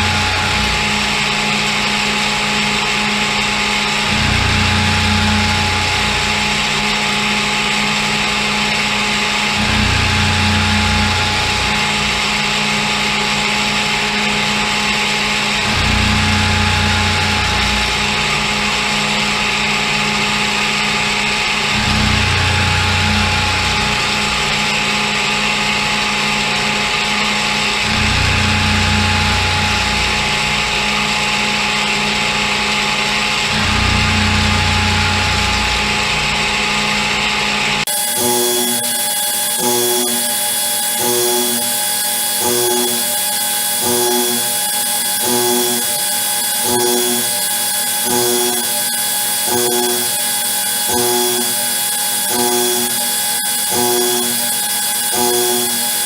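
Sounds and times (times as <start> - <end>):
deeper machine hum: 0.0 - 56.0
milling machine running: 0.0 - 56.0.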